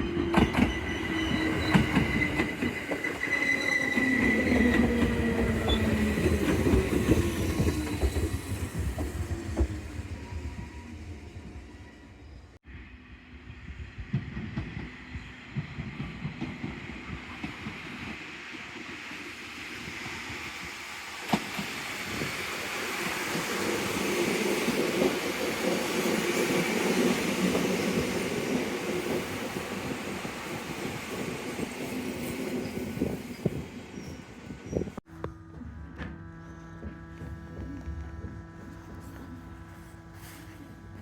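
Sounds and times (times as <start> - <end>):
train running on rails: 0.0 - 41.0.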